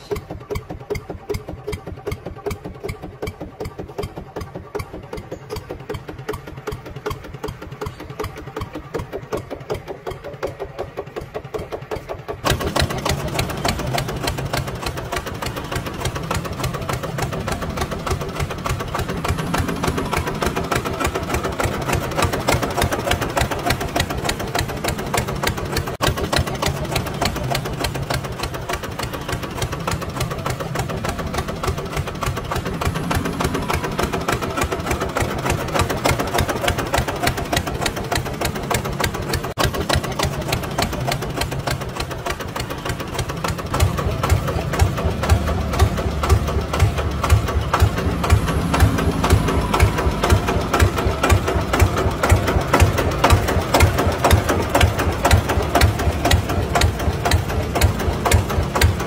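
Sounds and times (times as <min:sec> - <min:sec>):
motor chugging: 0:00.0 - 0:59.0.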